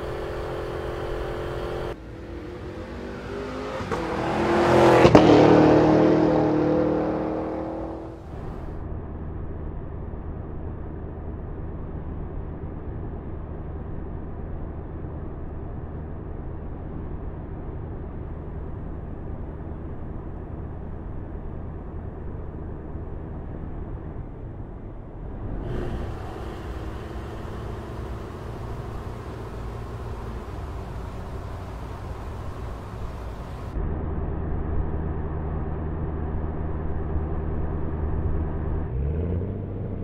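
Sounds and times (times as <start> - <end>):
car engine drone in cabin: 0.0 - 40.0.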